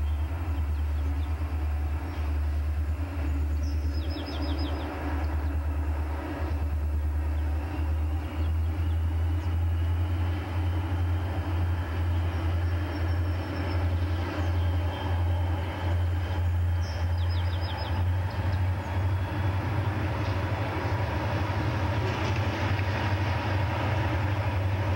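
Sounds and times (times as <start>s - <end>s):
diesel locomotives engine rumble: 0.0s - 24.9s.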